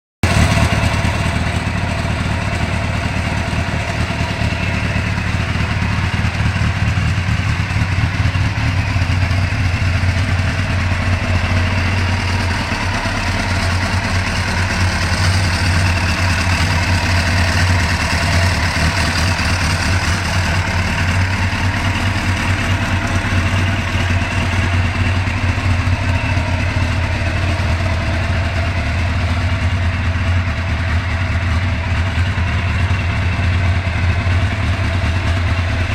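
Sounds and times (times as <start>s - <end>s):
motorcycle engine idling: 0.2s - 35.9s.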